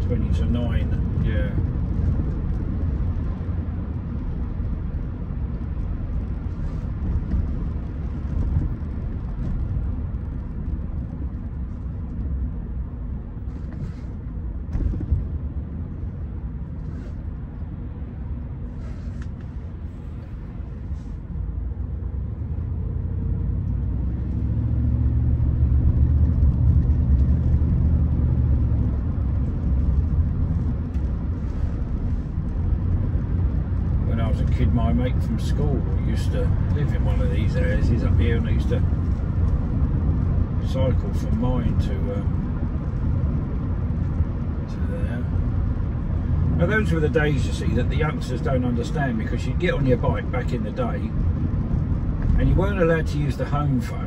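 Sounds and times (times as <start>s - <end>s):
car engine rumble inside cabin: 0.0s - 54.0s.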